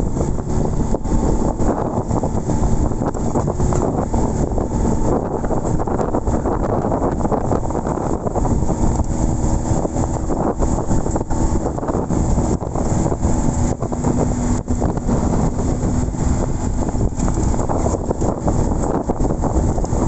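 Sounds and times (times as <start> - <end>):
engine running: 0.0 - 20.0
wind noise on microphone: 0.0 - 20.0.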